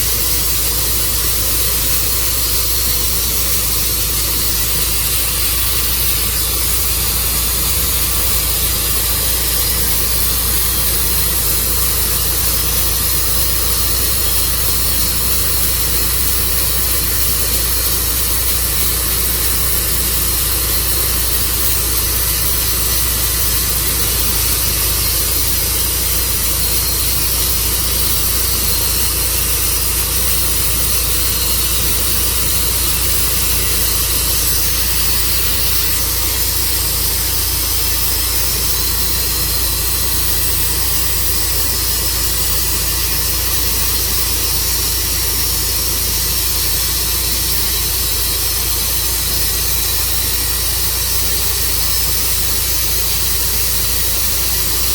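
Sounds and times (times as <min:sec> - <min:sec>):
sawmill engine drone with hiss: 0:00.0 - 0:54.9.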